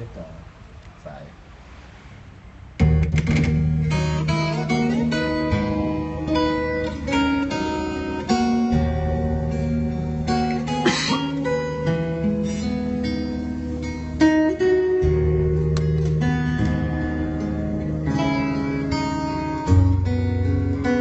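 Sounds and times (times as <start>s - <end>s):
guitar music over bass line: 2.8s - 21.0s.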